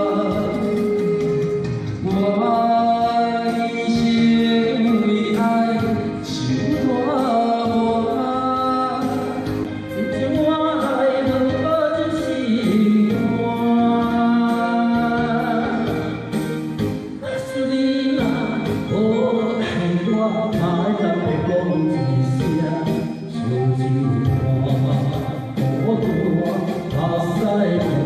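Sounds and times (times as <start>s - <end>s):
backing music: 0.0s - 28.0s
voices singing a slow ballad: 0.0s - 28.0s.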